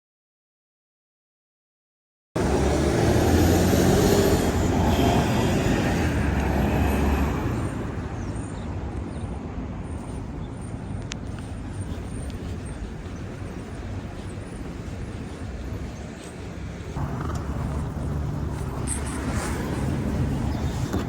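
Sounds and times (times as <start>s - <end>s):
road vehicle rumble: 2.4s - 21.0s.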